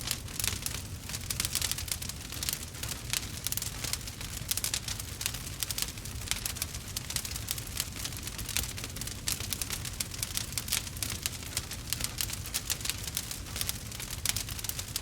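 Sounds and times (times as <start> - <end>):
fire crackles and pops: 0.0 - 15.0
low fire rumble: 0.0 - 15.0.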